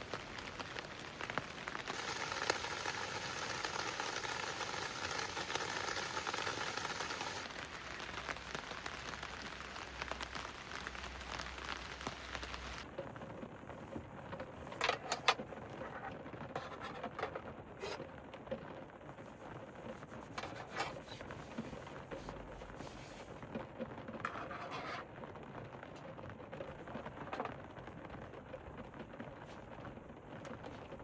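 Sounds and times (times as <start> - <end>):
rain pattering on a roof: 0.0 - 31.0.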